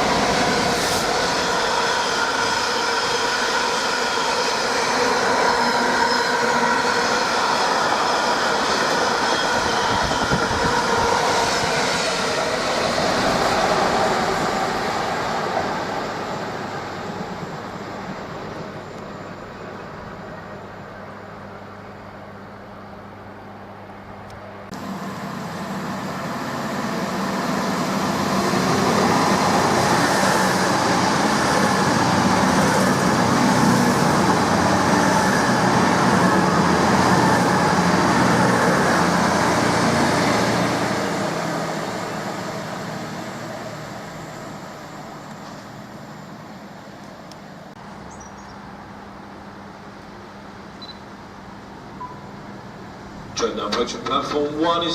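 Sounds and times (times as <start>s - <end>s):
train passing: 0.0s - 54.9s.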